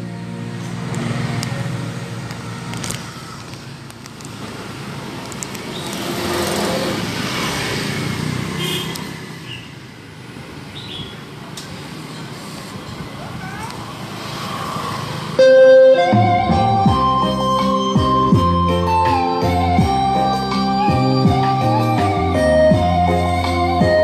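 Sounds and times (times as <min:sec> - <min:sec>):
motor scooters passing: 0:00.0 - 0:20.0.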